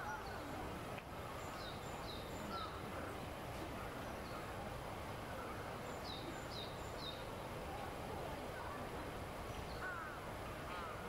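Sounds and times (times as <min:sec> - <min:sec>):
park background hiss: 0:00.0 - 0:11.0
songbird calls: 0:00.0 - 0:11.0.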